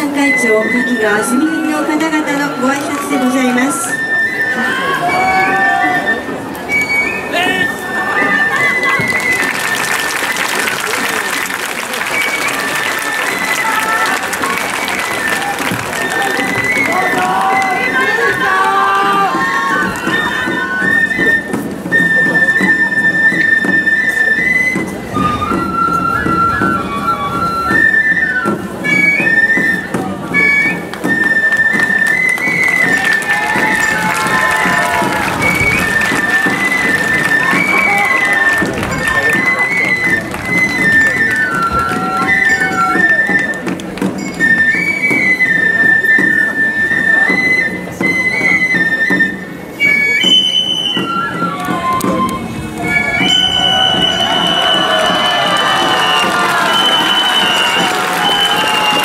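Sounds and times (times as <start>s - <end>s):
busy lower accompaniment: 0.0s - 59.0s
flute melody: 0.0s - 59.0s
percussion strokes: 0.0s - 59.0s
shrill wind instrument: 0.0s - 59.0s.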